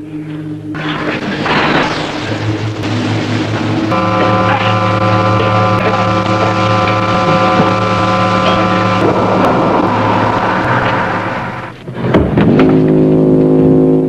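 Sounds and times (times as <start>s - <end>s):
buzzing hum with overtones: 0.0s - 14.0s
rushing noise: 0.8s - 12.1s.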